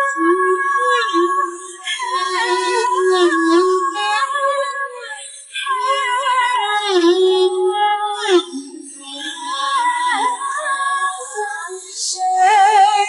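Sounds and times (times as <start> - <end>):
woman singing pop ballad: 0.0 - 13.0.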